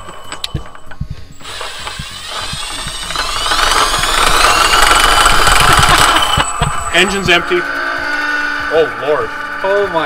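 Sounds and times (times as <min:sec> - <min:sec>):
power drill high whine: 0:00.0 - 0:10.0.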